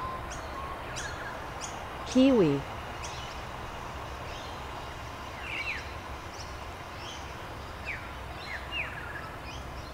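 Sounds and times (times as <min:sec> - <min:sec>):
background hiss: 0:00.0 - 0:09.9.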